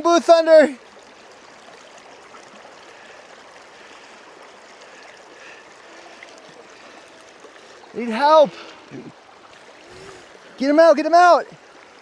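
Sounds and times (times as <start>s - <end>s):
creek water babbling over rocks: 0.0s - 12.0s.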